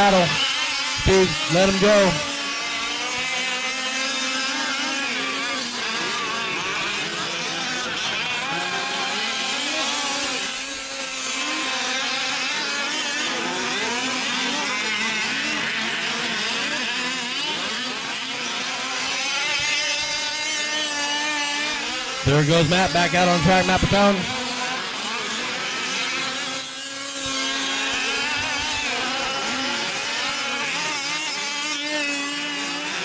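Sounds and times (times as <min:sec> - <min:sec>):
small two-stroke engines racing: 0:00.0 - 0:33.0.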